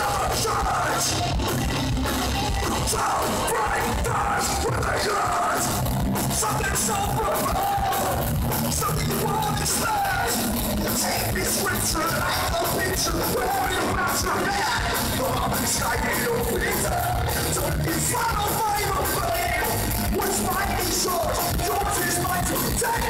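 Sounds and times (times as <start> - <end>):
drums with crashing cymbals: 0.0 - 23.0
electric guitars and bass: 0.0 - 23.0
singer's vocals: 0.0 - 23.0.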